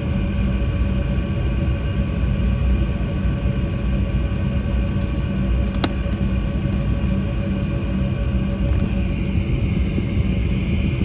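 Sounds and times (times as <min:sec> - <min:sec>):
jet engine low rumble in cabin: 0:00.0 - 0:11.0
steady engine whine: 0:00.0 - 0:11.0.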